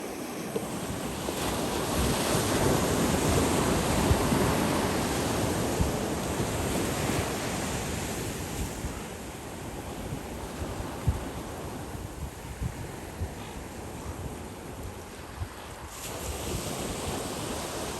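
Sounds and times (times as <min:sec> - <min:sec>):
surf washing onto beach: 0:00.0 - 0:17.9
wind buffeting microphone: 0:00.0 - 0:17.9.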